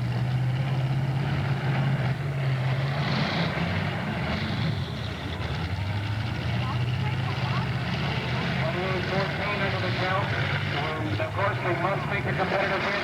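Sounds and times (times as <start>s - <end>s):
car engines revving: 0.0s - 13.0s
crowd and arena noise: 0.0s - 13.0s.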